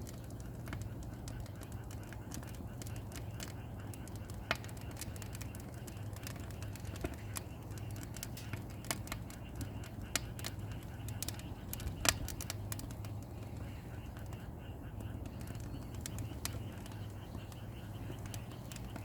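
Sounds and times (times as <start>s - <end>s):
firewood crackling and popping: 0.0s - 19.0s
low steady hum: 0.0s - 19.0s.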